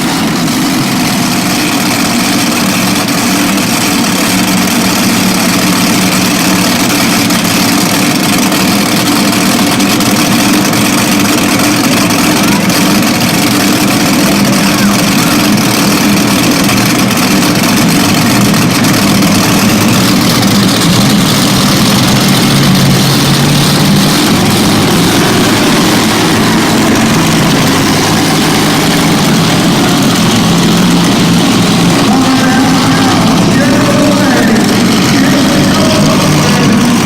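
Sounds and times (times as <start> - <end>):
monster truck engine idling: 0.0 - 37.0.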